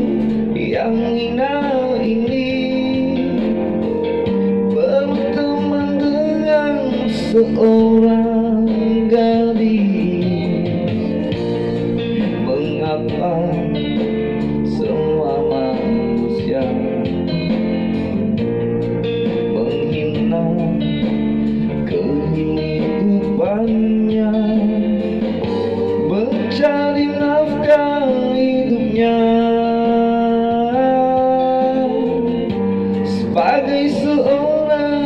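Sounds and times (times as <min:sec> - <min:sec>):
man singing into microphone: 0:00.0 - 0:18.2, 0:19.2 - 0:35.0
backing music with guitar: 0:00.0 - 0:35.0.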